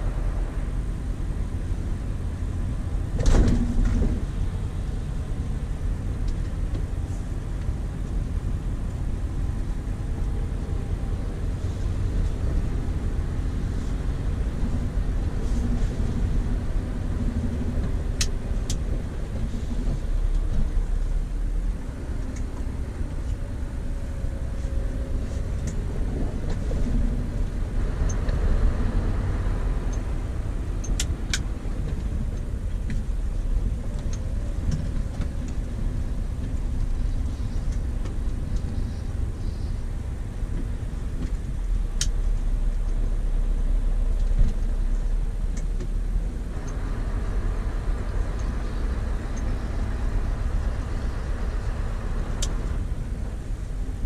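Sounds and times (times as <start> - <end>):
diesel truck engine rumbling: 0.0 - 54.0.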